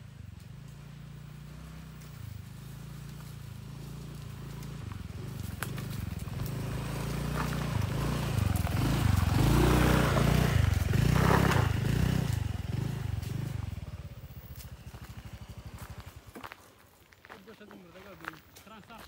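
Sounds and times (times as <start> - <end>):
motor scooter engine: 0.0 - 17.1.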